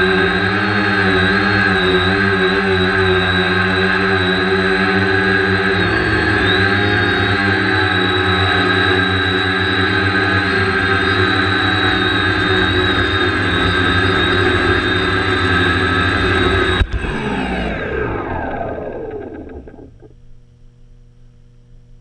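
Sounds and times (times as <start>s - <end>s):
drone motors whining: 0.0s - 20.2s.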